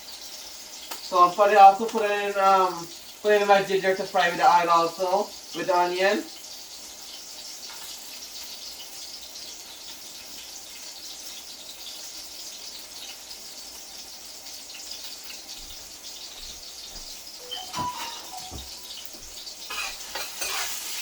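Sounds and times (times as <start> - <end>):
onion sizzling in hot oil: 0.0 - 16.4, 17.4 - 21.0.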